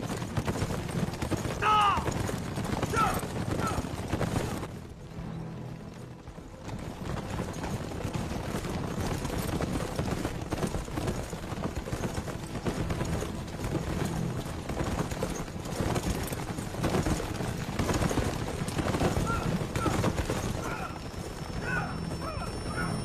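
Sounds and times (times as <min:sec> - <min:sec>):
horses galloping on dirt: 0:00.0 - 0:23.0.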